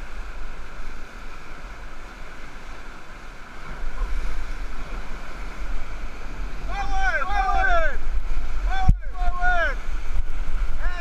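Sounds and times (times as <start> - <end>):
rapids rushing water: 0.0 - 11.0
wind rumble on microphone: 0.0 - 11.0.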